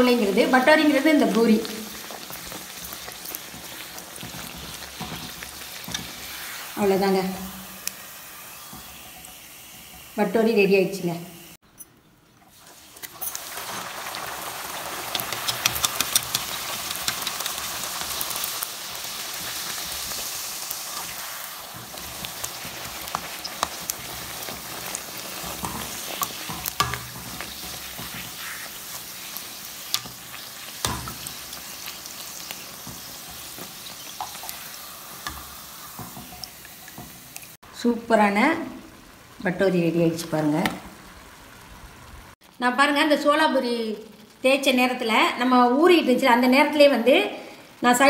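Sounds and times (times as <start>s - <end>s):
dough deep-frying in hot oil: 0.0s - 48.0s.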